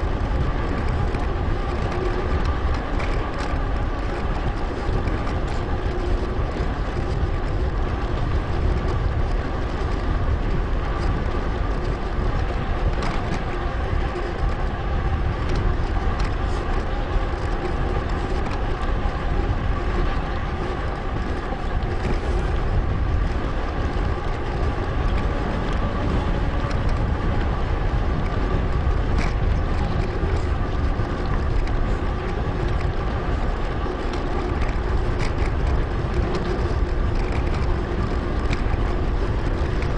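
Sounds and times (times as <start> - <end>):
bicycle tyres rolling on pavement: 0.0 - 39.9
wind rush on microphone: 0.0 - 39.9.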